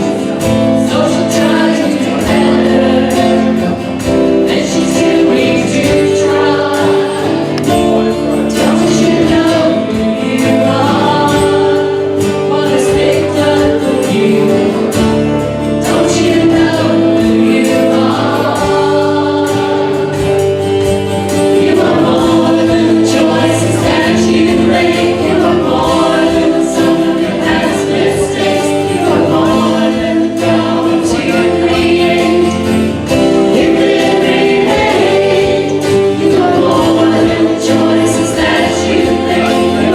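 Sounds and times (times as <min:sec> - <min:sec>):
congregation singing a hymn: 0:00.0 - 0:39.9
instrumental accompaniment: 0:00.0 - 0:39.9.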